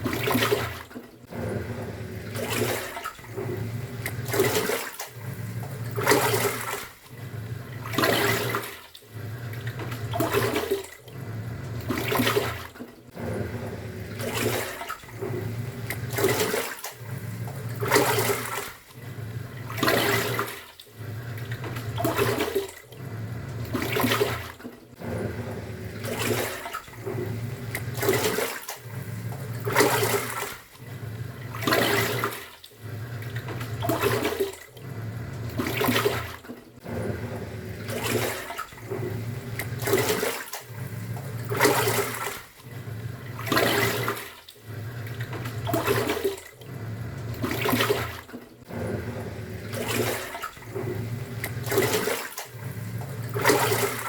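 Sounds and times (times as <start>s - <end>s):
washing machine motor hum: 0.0s - 54.0s
water sloshing: 0.0s - 54.0s.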